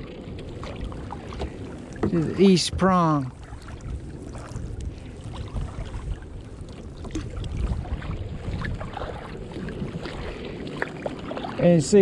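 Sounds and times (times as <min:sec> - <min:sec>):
paddle splashing water: 0:00.0 - 0:12.0
wind rumble on microphone: 0:00.0 - 0:12.0.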